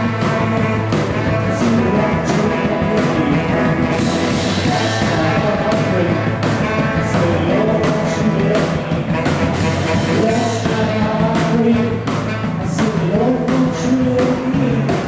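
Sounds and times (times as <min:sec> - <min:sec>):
bass guitar: 0:00.0 - 0:15.0
drum beat: 0:00.0 - 0:15.0
guitar chords: 0:00.0 - 0:15.0.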